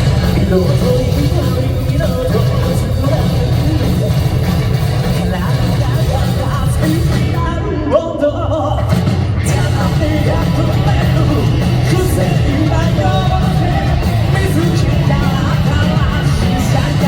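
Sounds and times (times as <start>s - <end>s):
live rock band playing: 0.0s - 17.0s
man singing: 0.0s - 17.0s.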